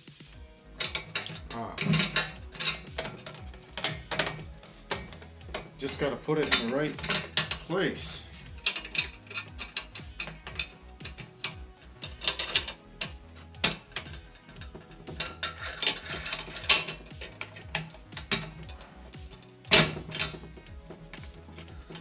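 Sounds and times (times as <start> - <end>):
metal scraping: 0.4 - 22.0
metal clicks knocks and rattles: 0.8 - 22.0.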